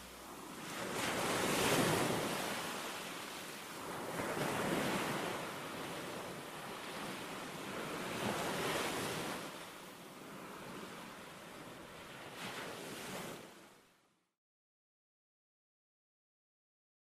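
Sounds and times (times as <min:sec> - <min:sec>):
waves breaking on beach: 0:00.0 - 0:14.0.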